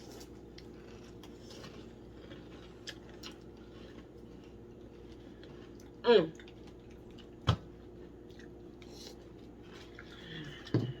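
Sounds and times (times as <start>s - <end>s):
person chewing cereal: 0.0s - 11.0s.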